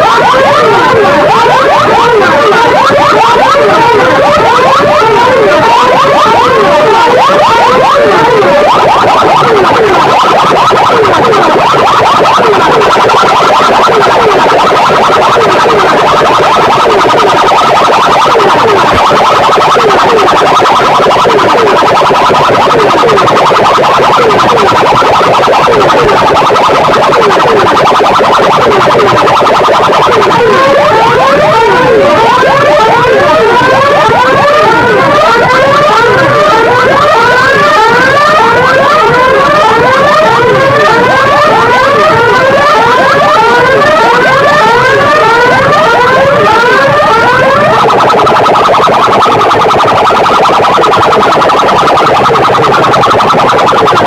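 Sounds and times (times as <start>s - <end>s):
siren-like electronic sound effects: 0.0s - 54.0s.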